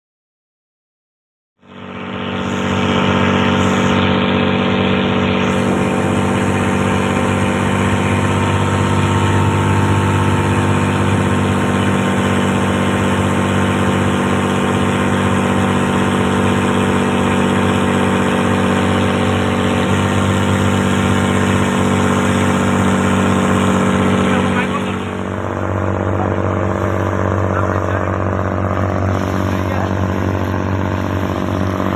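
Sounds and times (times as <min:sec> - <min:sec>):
boat engine running: 0:01.6 - 0:31.9.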